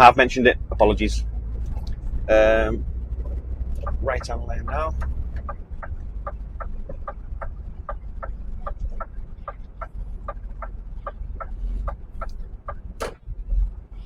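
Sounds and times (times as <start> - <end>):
truck engine running: 0.0 - 14.0
turn signal ticking: 0.0 - 14.0.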